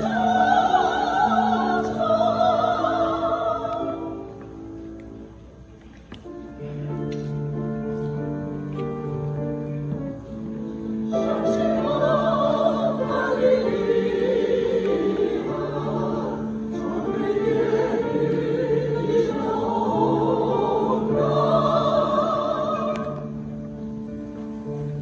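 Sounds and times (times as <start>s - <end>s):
choir singing slowly: 0.0s - 5.1s, 8.8s - 25.0s.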